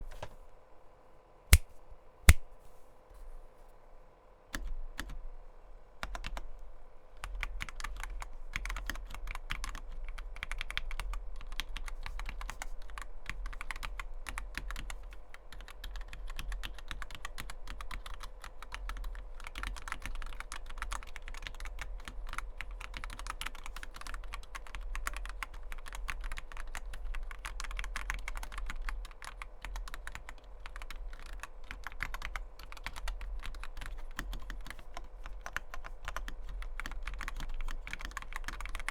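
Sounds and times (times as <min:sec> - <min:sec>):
typing on mechanical keyboard: 0:07.2 - 0:38.9.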